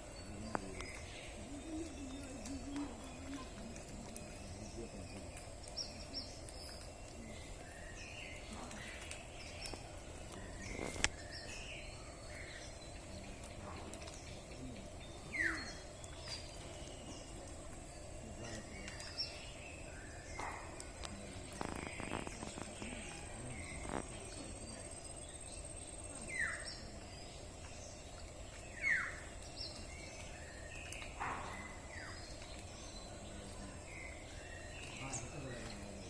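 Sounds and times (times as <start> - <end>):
birds chirping: 0.0 - 36.0
outdoor background noise: 0.0 - 36.0.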